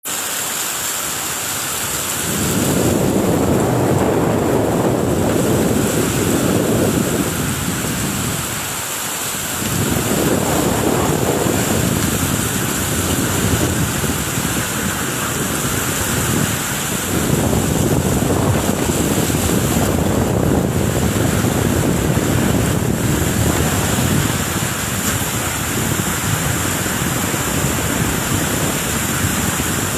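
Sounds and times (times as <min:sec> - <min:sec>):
heavy rain pouring: 0:00.0 - 0:29.9
deep wind rumble: 0:01.6 - 0:29.9.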